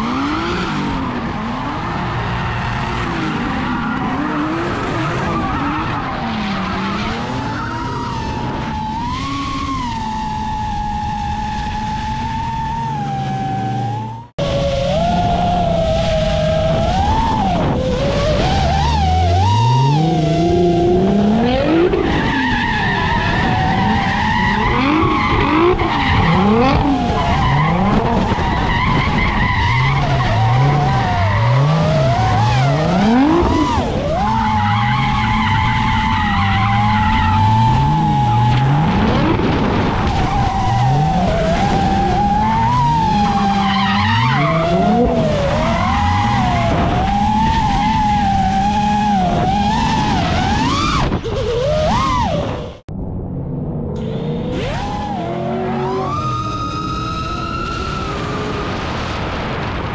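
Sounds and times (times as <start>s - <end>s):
tyres skidding: 0.0s - 52.8s
drone motors whining: 0.0s - 59.7s
car engine revving: 0.0s - 59.9s.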